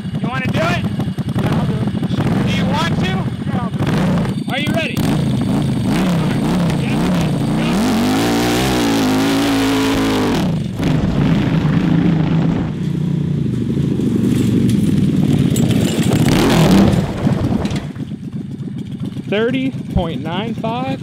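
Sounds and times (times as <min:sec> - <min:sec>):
go-kart engine revving: 0:00.0 - 0:21.0.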